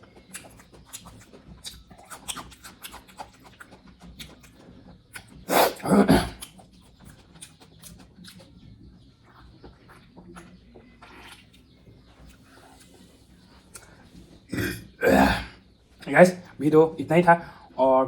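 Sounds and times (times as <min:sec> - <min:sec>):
chewing and mouth smacking: 0:00.0 - 0:14.5.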